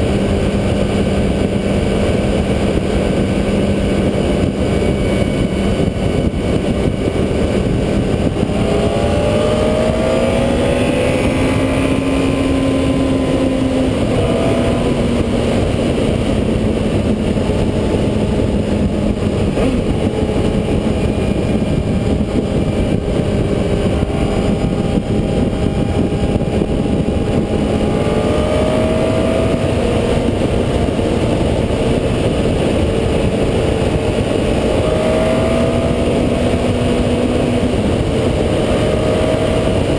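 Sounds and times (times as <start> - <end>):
motorcycle engine pulling: 0.0 - 39.9
wind buffeting camera: 0.0 - 39.9.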